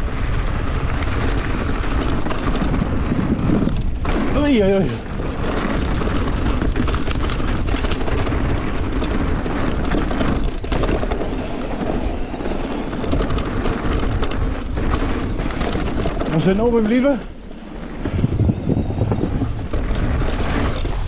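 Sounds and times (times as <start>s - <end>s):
bike rattling over bumps: 0.0s - 21.0s
tyre roar on dirt: 0.0s - 21.0s
wind rush: 0.0s - 21.0s.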